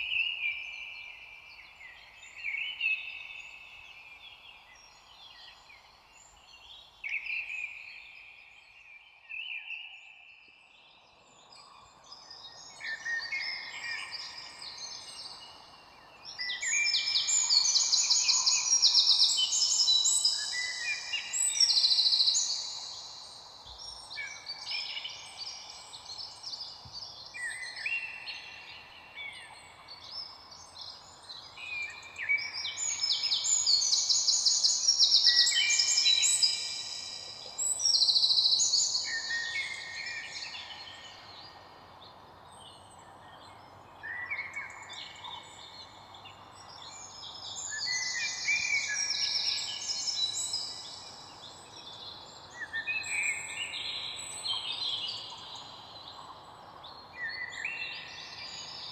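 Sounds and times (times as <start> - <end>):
faint steady hiss: 0.0 - 58.9
wild birds chirping and singing: 0.0 - 58.9.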